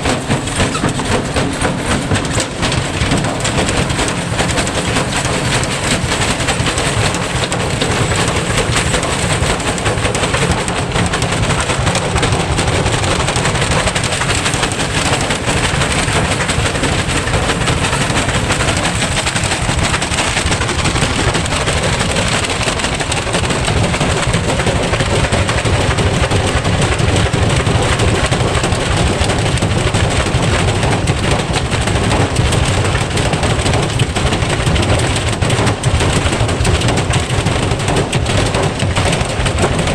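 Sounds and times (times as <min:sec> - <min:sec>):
washing machine banging and rattling: 0:00.0 - 0:39.9.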